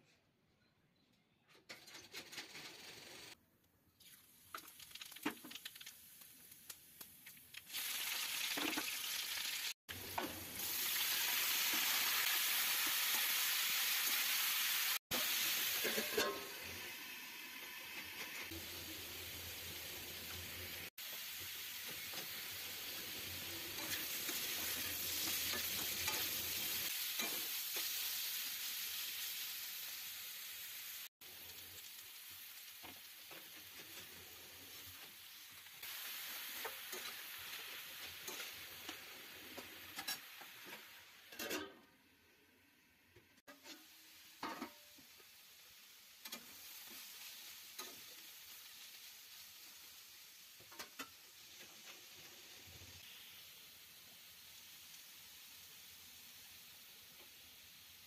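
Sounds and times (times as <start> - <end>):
potatoes sizzling in hot oil: 4.0 - 42.4, 43.3 - 58.0.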